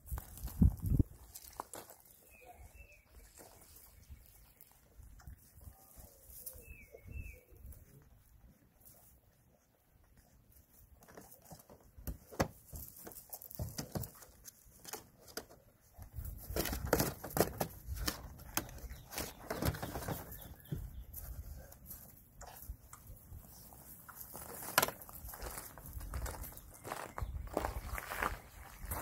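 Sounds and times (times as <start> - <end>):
puppies scampering and playing: 1.1 - 26.8.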